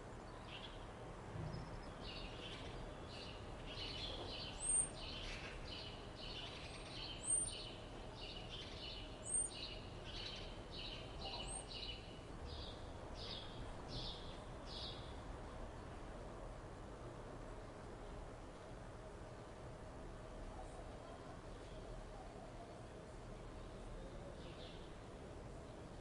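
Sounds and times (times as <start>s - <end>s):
faint outdoor hiss: 0.0s - 26.0s.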